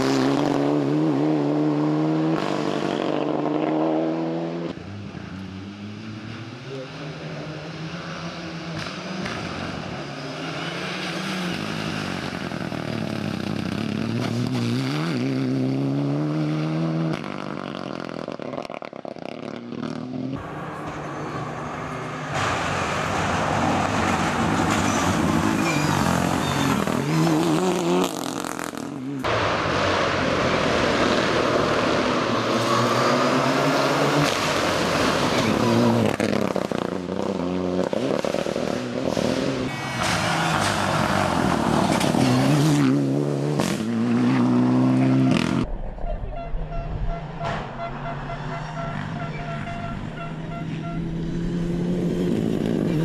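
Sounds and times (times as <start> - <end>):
rally cars passing at speed: 0.0 - 46.0, 46.6 - 53.0.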